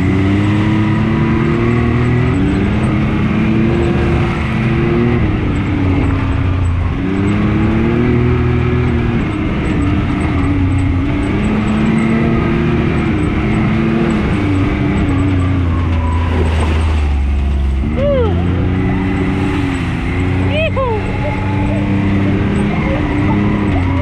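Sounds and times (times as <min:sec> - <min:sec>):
vehicle engine revving: 0:00.0 - 0:24.0
wind and terrain noise: 0:00.0 - 0:24.0.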